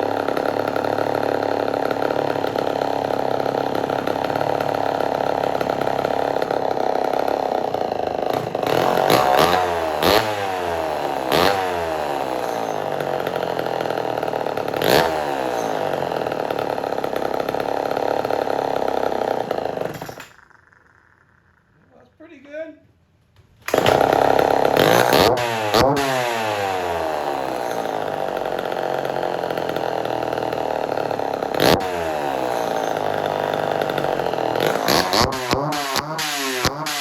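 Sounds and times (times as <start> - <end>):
chainsaw engine idling and revving: 0.0 - 21.9, 23.6 - 37.0.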